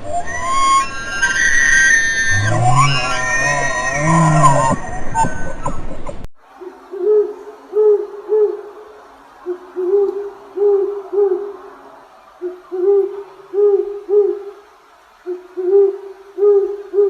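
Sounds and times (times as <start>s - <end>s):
owl hooting: 0.0s - 5.4s, 6.5s - 17.0s.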